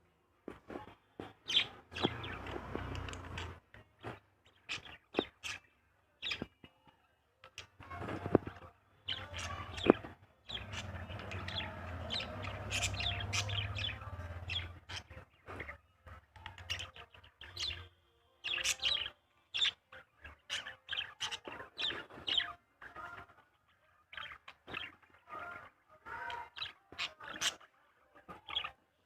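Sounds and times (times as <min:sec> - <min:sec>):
small birds chirping: 0:00.5 - 0:29.0.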